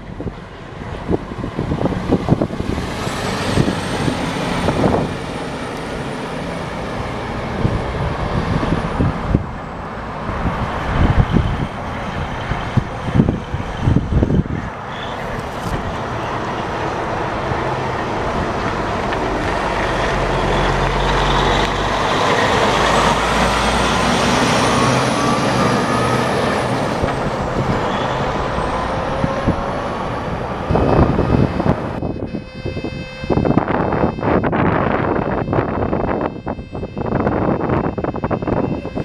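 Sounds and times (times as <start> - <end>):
dump truck diesel engine passing: 0.0 - 32.1.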